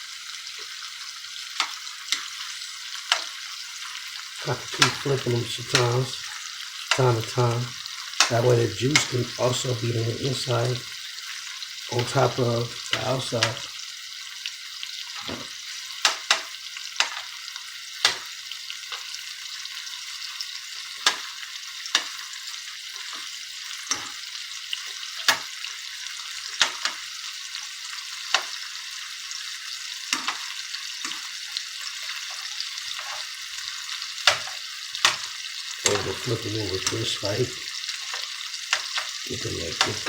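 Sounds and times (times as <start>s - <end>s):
sausages sizzling in oil: 0.0s - 40.0s.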